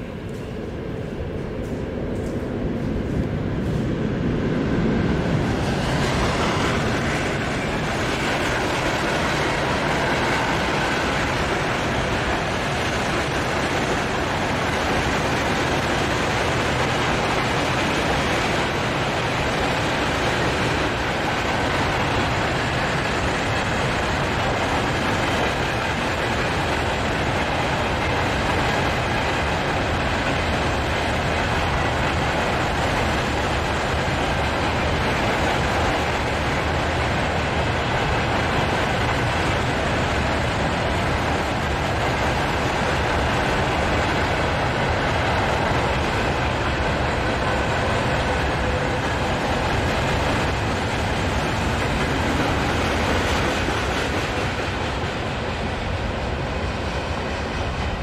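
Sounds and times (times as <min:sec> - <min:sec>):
freight train passing: 0:00.0 - 0:58.0
wheels clacking over rail joints: 0:05.2 - 0:58.0.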